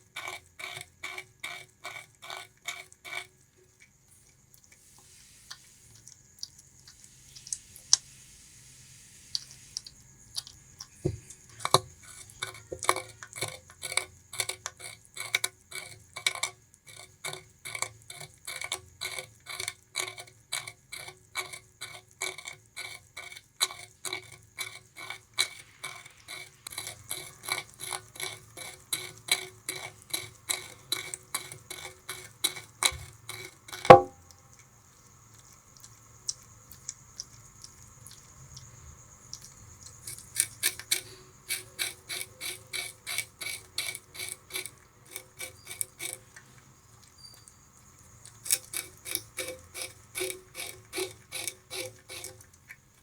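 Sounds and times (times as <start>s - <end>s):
rat chewing sugarcane: 0.0s - 53.0s.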